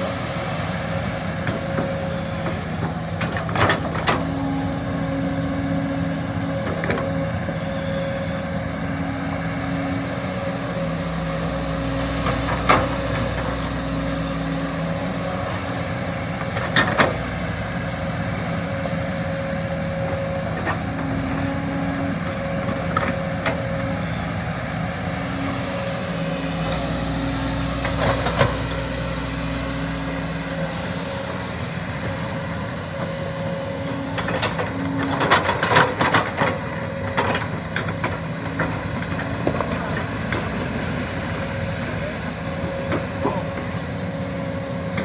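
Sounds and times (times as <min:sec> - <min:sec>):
model excavator motors humming: 0:00.0 - 0:45.0.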